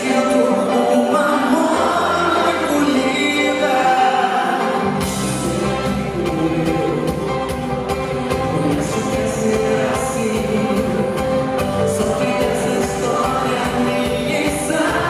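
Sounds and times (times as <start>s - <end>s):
live band playing pop song: 0.0s - 15.0s.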